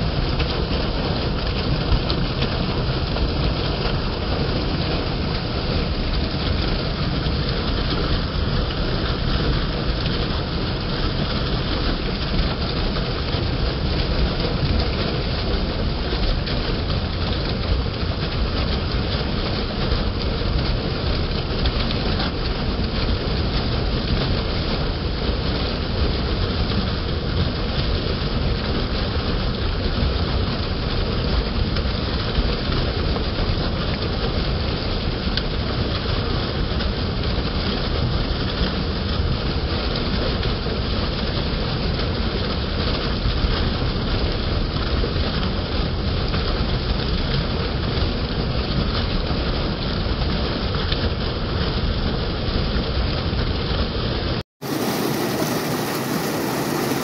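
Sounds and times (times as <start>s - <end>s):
water gushing from a pipe: 0.0s - 57.0s.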